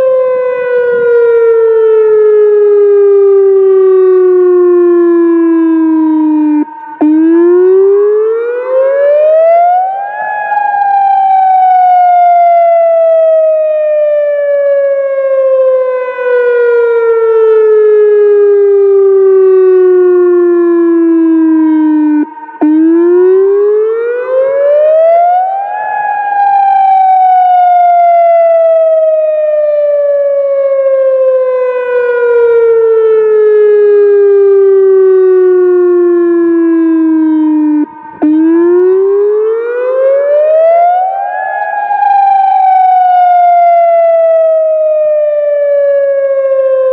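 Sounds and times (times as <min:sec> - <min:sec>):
electronic warning siren wailing: 0:00.0 - 0:46.9.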